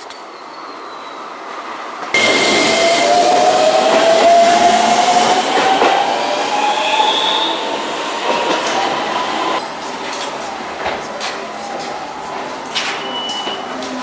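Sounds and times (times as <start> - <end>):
train running noise: 0.0 - 14.0
electric train motor whine: 2.2 - 14.0.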